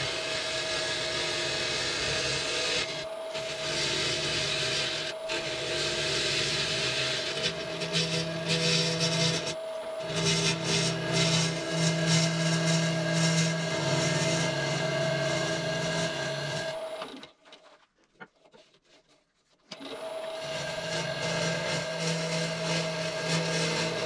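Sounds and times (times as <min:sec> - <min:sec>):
tool rasping on wood: 0:00.0 - 0:16.9, 0:20.4 - 0:24.0
wood lathe motor hum: 0:00.0 - 0:17.2, 0:19.7 - 0:24.0.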